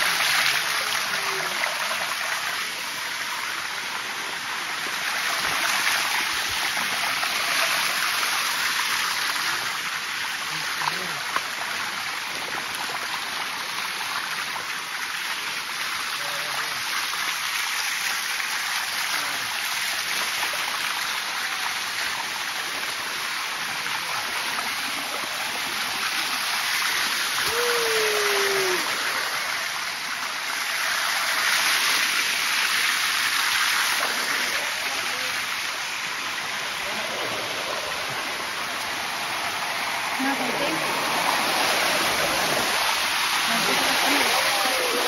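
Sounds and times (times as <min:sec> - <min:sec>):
waterfall rushing over rocks: 0:00.0 - 0:45.0.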